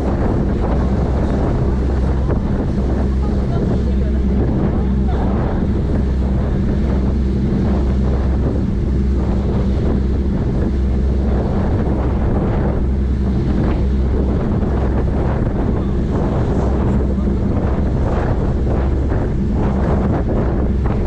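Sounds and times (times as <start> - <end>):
boat engine humming: 0.0 - 21.0
churning wake rushing: 0.0 - 21.0
wind buffeting microphone: 0.0 - 21.0.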